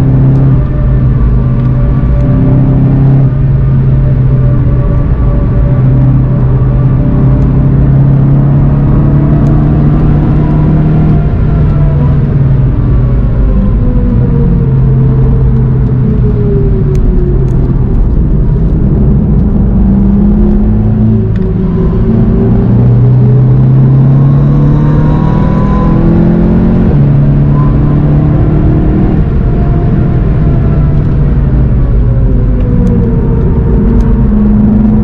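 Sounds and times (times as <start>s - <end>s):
car engine at speed: 0.0s - 35.0s
falling whine: 0.0s - 35.0s
road noise: 0.0s - 35.0s.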